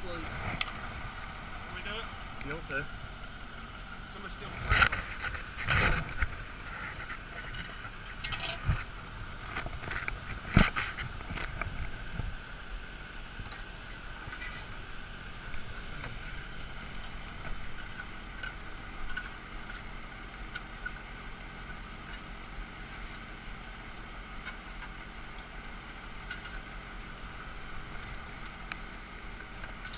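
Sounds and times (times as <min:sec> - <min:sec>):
mechanical drone with whine: 0:00.0 - 0:29.9.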